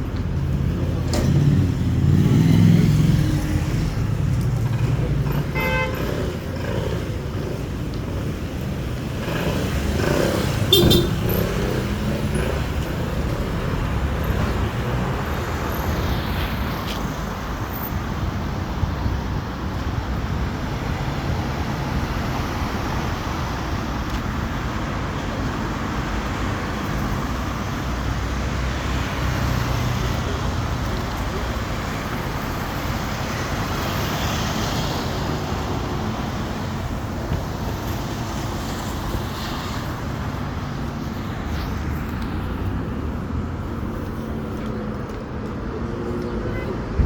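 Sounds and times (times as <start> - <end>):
road traffic noise: 0.0 - 47.0.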